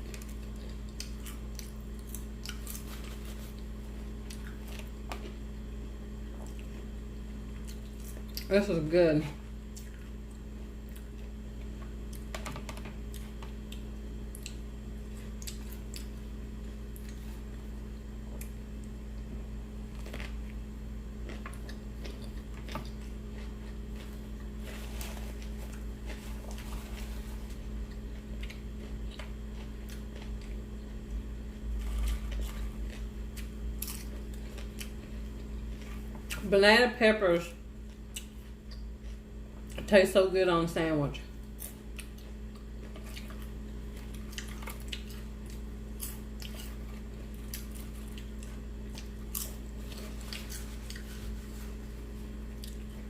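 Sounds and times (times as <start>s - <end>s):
chewing with soft crunches: 0.0s - 8.5s, 9.4s - 36.5s, 37.4s - 39.9s, 41.3s - 53.0s
low electrical hum: 0.0s - 53.0s.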